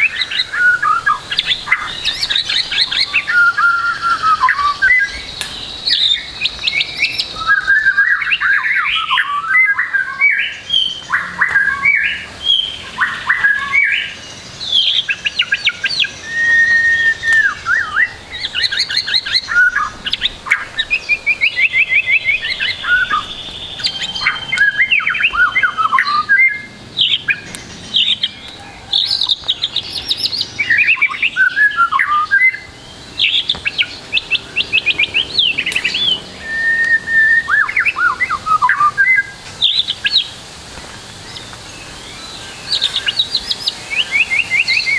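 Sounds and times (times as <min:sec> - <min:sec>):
songbird singing varied song: 0:00.0 - 0:44.9.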